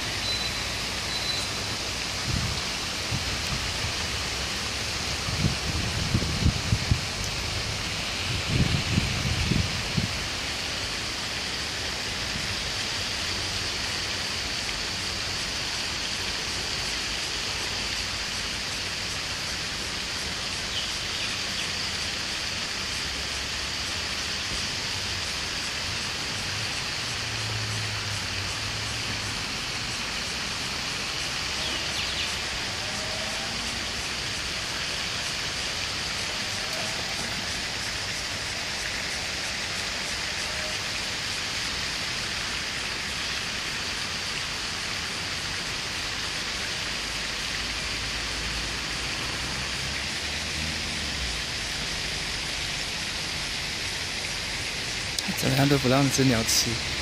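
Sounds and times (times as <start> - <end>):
running water hiss: 0.0 - 57.0.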